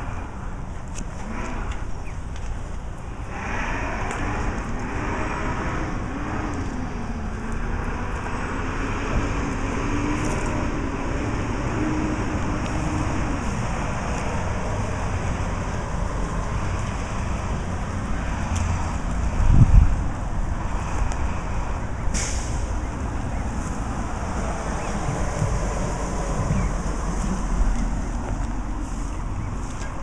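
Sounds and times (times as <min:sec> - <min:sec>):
road traffic rumble: 0:00.0 - 0:30.0
engine drone wavering in pitch: 0:03.0 - 0:30.0.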